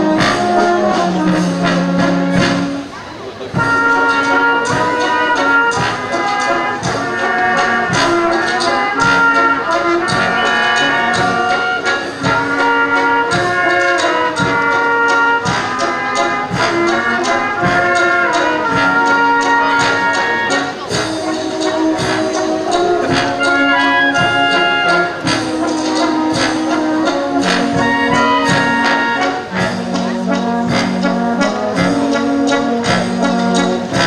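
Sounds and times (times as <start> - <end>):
brass band playing a waltz: 0.0 - 34.0.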